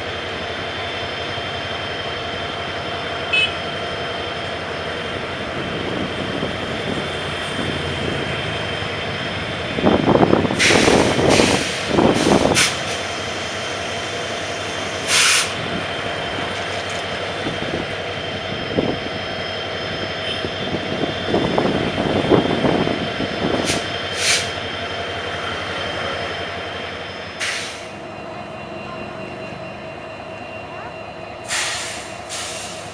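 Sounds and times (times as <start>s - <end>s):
diesel locomotive engine running: 0.0s - 32.9s.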